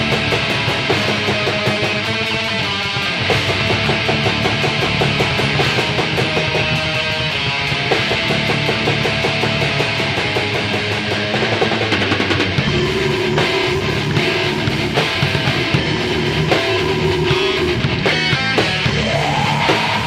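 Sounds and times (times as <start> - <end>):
distorted electric guitars: 0.0 - 20.0
drum kit playing: 0.0 - 20.0
heavy metal song: 0.0 - 20.0.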